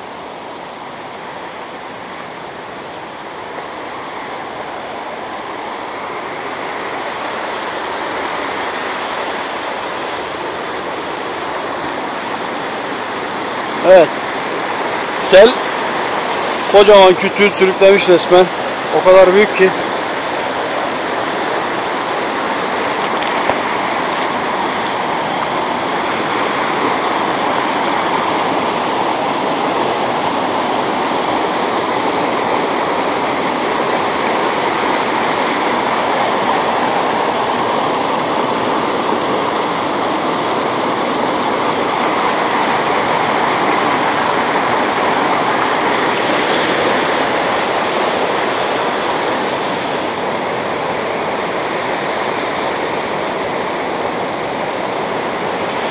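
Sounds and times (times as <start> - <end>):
stream rushing over boulders: 0.0 - 55.9.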